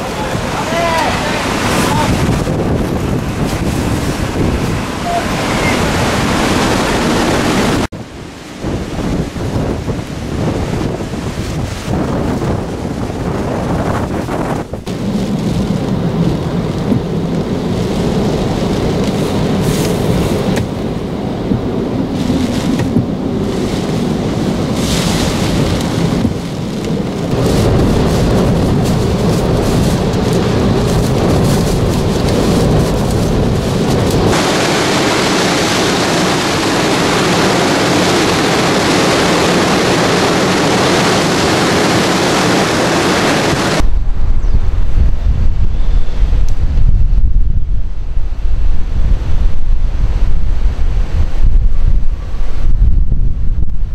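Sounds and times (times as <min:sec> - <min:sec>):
heavy rain: 0:00.0 - 0:43.9
car driving through storm: 0:00.0 - 0:53.9
strong wind: 0:00.0 - 0:53.9
wind gusts buffeting microphone: 0:00.0 - 0:53.9.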